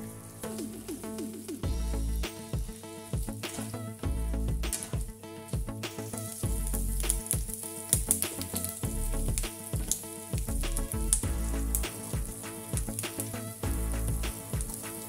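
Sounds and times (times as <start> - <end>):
vegetables sizzling in hot oil: 0.0 - 3.7, 6.0 - 15.0
background music with steady beat: 0.0 - 15.0.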